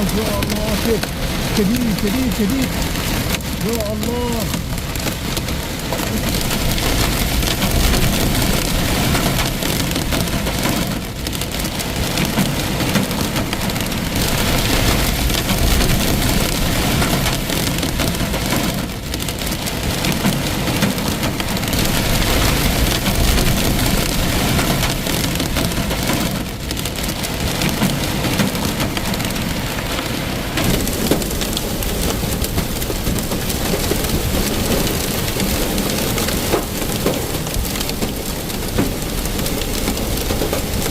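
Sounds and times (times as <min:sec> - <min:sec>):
torrential rain pouring: 0:00.0 - 0:40.9.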